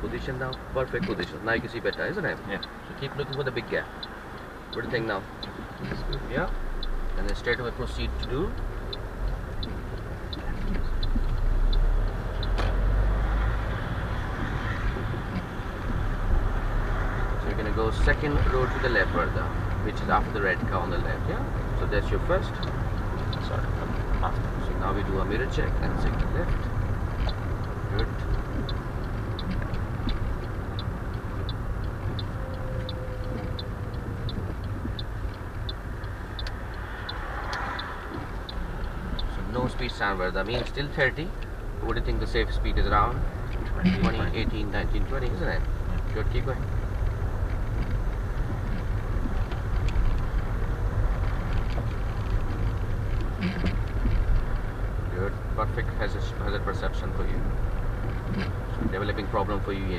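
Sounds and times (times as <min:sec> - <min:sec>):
car engine and road rumble: 0:00.0 - 0:59.9
turn signal relay ticking: 0:00.0 - 0:59.9.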